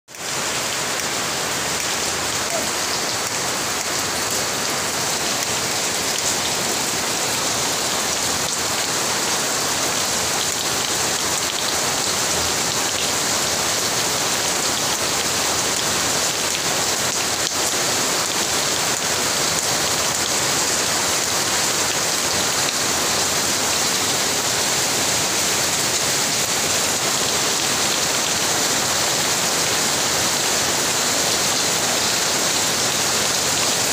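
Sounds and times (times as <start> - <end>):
heavy rain hiss: 0.1 - 33.9.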